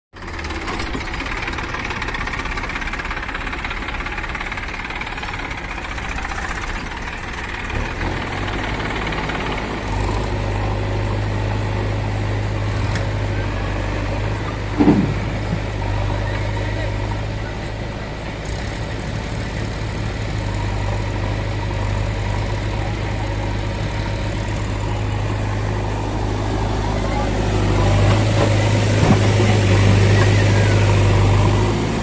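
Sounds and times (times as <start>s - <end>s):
diesel engines humming: 0.2s - 32.0s.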